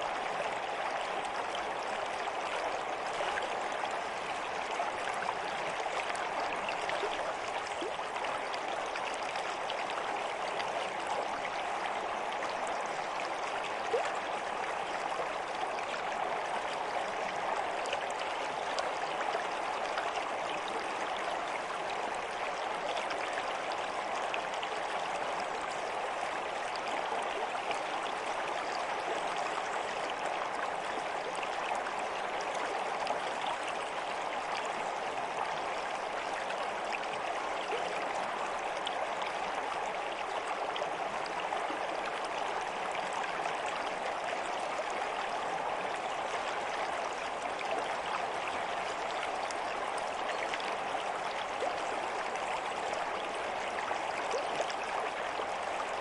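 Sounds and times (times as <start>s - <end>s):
water flowing in a stream: 0.0s - 56.0s.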